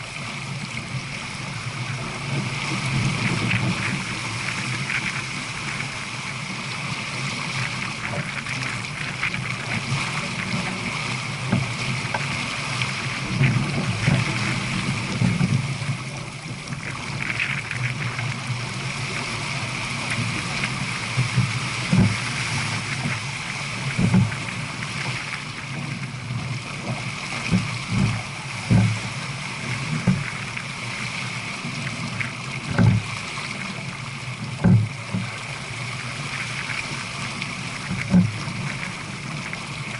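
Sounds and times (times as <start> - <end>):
water rushing along a boat hull: 0.0 - 39.9.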